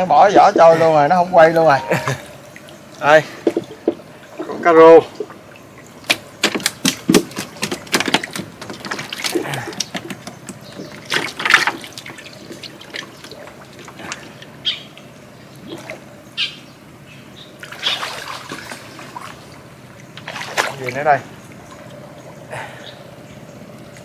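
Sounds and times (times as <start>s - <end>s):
shallow water splashing: 1.9s - 16.2s, 17.6s - 23.1s.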